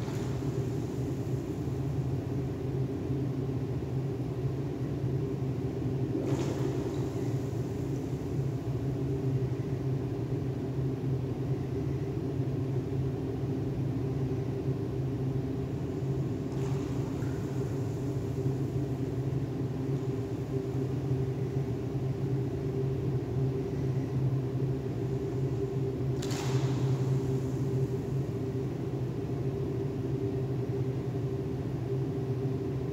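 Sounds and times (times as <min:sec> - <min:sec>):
low machinery hum: 0:00.0 - 0:32.9.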